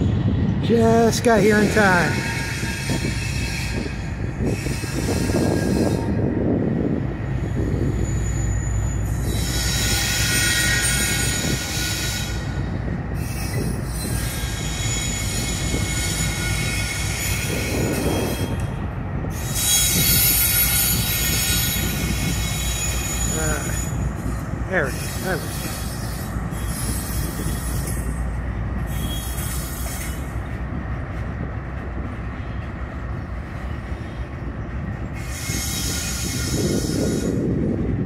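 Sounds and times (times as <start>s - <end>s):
diesel locomotive engines droning: 0.0s - 38.0s
steel wheels squealing on rails: 0.0s - 38.0s.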